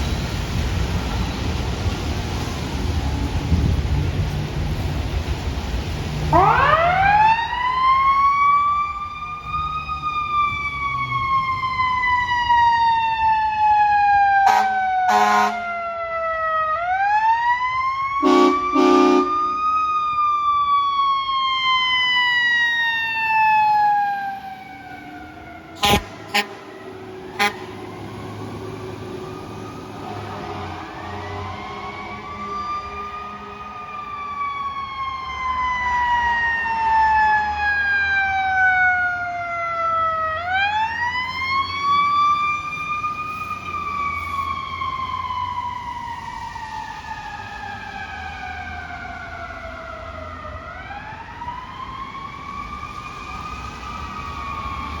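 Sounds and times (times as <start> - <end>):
fire truck siren wailing: 0.0 - 55.0.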